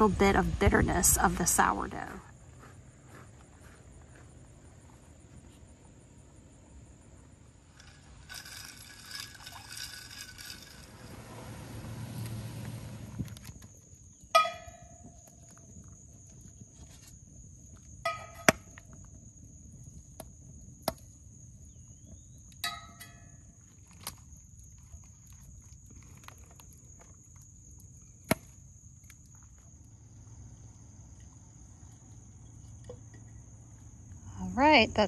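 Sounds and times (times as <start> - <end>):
high insect drone: 2.3 - 35.0.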